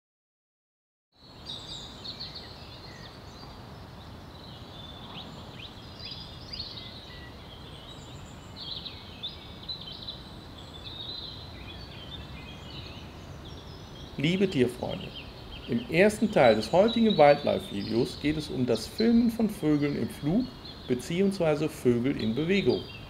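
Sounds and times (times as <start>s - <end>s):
outdoor ambience: 1.2s - 23.0s
songbirds chirping and trilling: 1.2s - 23.0s.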